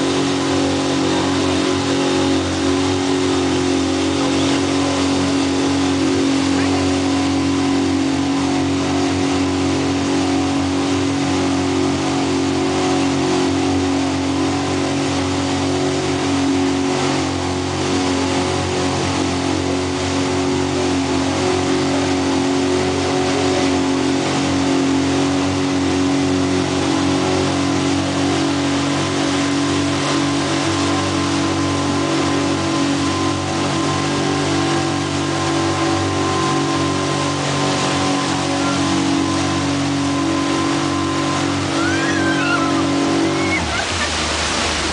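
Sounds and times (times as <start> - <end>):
boat engine drone: 0.0 - 44.9
water rushing from wake: 0.0 - 44.9.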